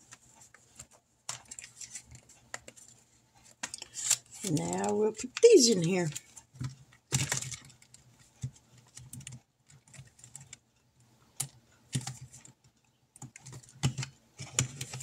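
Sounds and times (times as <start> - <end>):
paper rustling and tapping: 0.0 - 10.6, 11.4 - 15.0.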